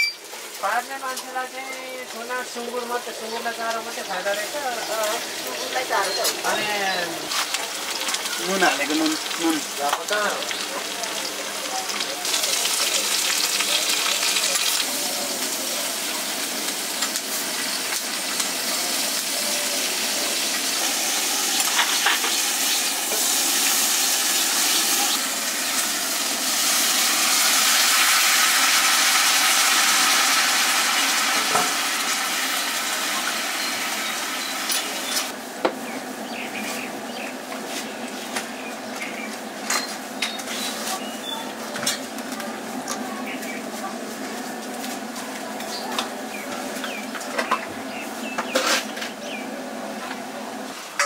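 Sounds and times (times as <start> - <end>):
food sizzling in a pan: 0.0 - 51.0.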